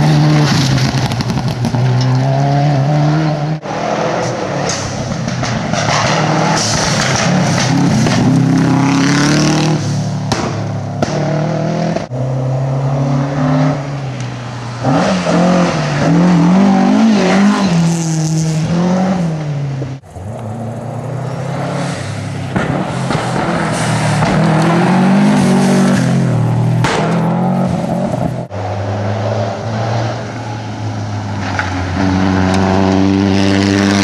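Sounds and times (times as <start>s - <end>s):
rally cars revving past: 0.0s - 34.0s.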